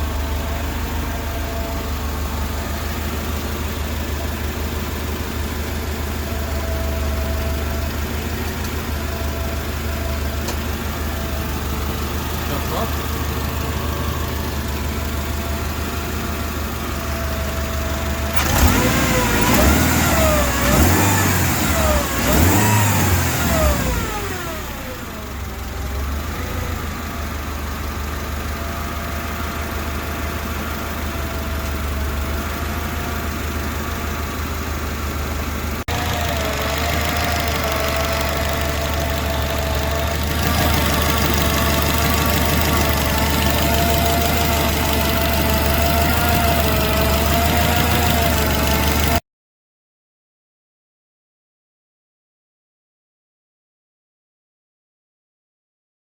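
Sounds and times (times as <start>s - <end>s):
car engine idling and revving: 0.0s - 49.2s.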